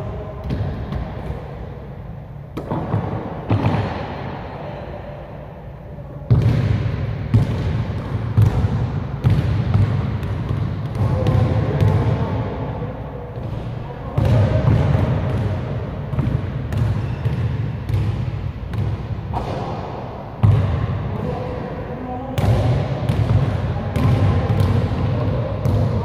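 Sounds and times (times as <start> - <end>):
basketball bouncing in a hall: 0.0 - 4.9, 6.2 - 26.0.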